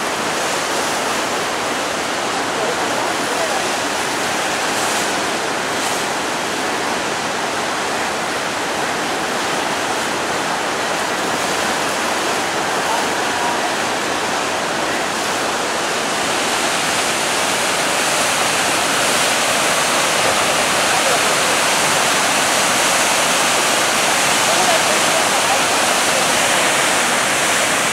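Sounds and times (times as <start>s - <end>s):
river rushing with broken ice: 0.0s - 27.9s.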